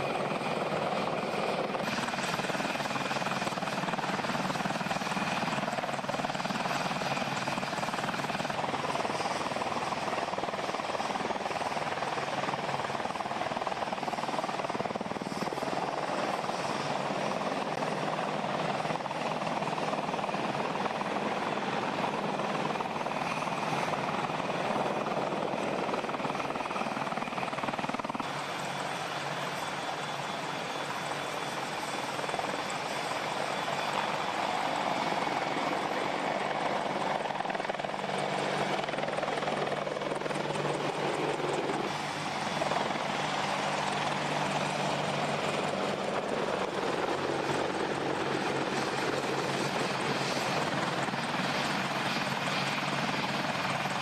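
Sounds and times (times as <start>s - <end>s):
helicopter rotors and turbines: 0.0s - 54.0s.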